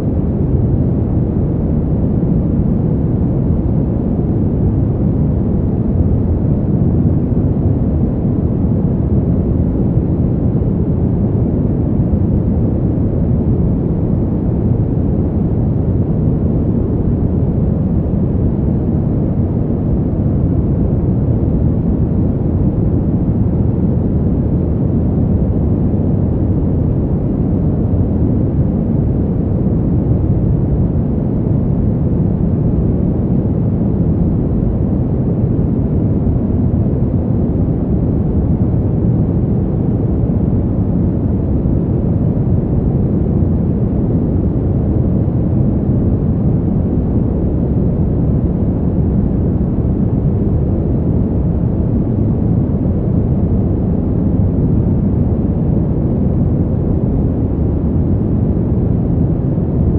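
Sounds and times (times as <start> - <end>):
low steady wind rush: 0.0 - 59.9.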